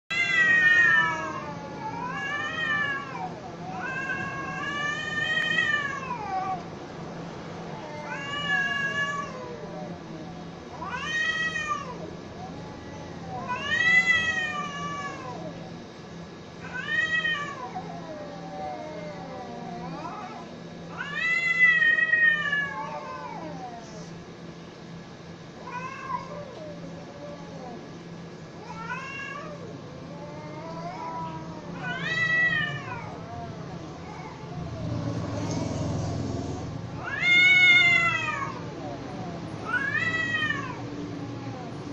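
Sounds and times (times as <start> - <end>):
cats yowling: 0.1 - 6.7, 7.7 - 15.9, 16.6 - 24.2, 25.6 - 35.3, 36.4 - 41.9
cats moaning low: 0.1 - 6.8, 7.6 - 24.5, 25.4 - 41.9.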